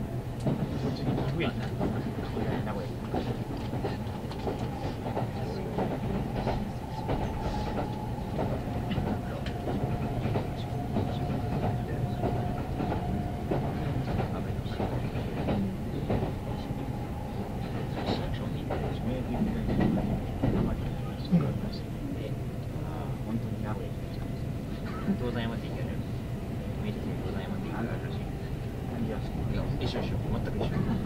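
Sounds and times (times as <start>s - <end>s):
train rumble: 0.0s - 31.0s.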